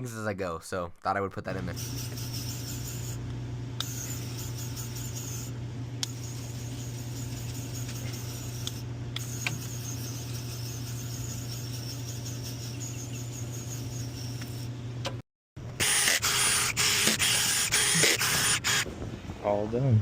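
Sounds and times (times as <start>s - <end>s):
low mechanical hum: 0.8s - 20.0s.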